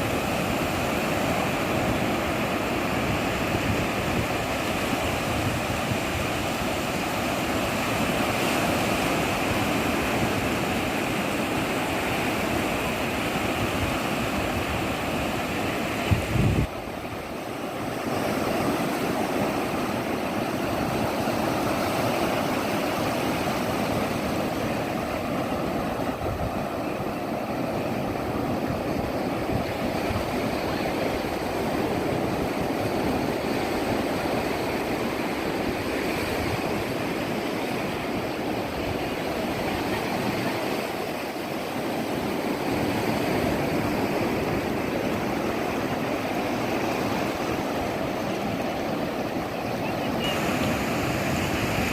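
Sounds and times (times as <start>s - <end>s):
waves washing on a beach: 0.0s - 51.9s.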